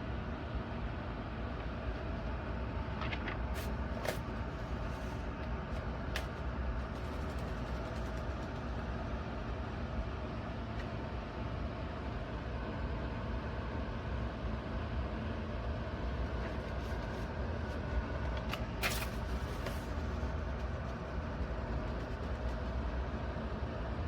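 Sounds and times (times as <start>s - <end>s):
window fan running: 0.0s - 24.0s.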